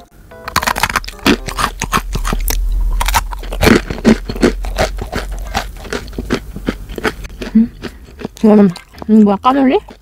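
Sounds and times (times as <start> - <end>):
crunching crisp snack: 0.5 - 10.0.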